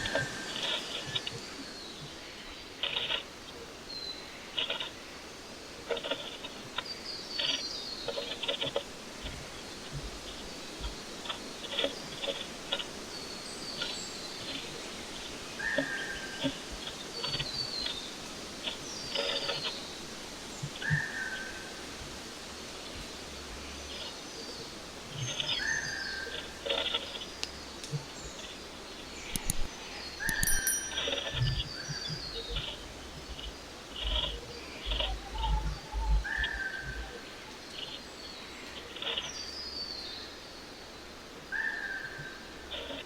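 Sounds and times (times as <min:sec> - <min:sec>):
clicks and scratches in nest box: 0:00.0 - 0:02.2, 0:02.8 - 0:03.6, 0:04.6 - 0:05.1, 0:05.8 - 0:21.8, 0:22.8 - 0:39.5, 0:42.2 - 0:43.0
small birds chirping: 0:00.0 - 0:43.0.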